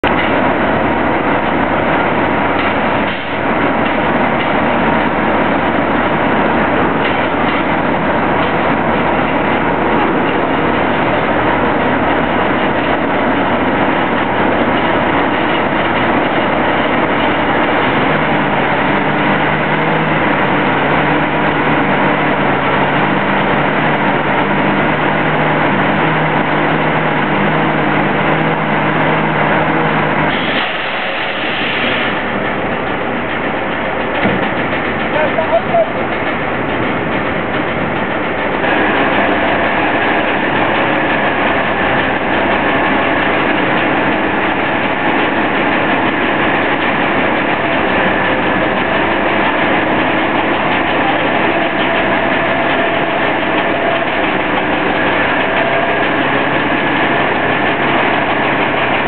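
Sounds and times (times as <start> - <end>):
large diesel engine running: 0.0 - 59.0.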